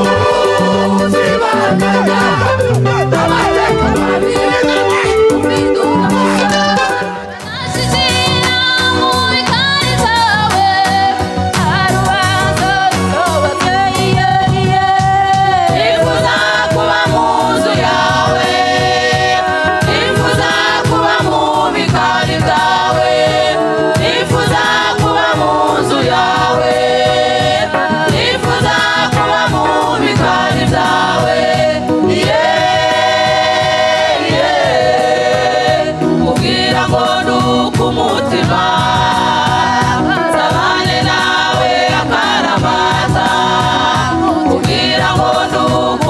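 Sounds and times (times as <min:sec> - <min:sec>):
choir singing in harmony: 0:00.0 - 0:46.0
instrumental backing with beat: 0:00.0 - 0:46.0.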